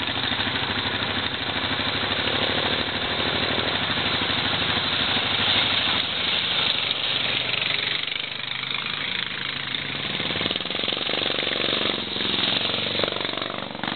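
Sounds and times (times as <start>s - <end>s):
dirt bike engine approaching: 0.0s - 13.9s
quad bike engine passing: 0.0s - 13.9s.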